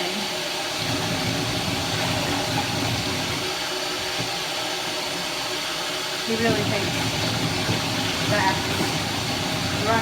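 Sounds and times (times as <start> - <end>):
running water hissing: 0.0 - 10.0.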